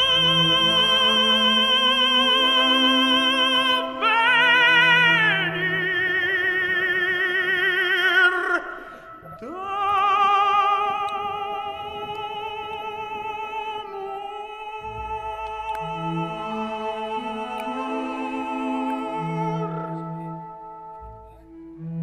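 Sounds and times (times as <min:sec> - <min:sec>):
operatic singing voice: 0:00.0 - 0:21.0.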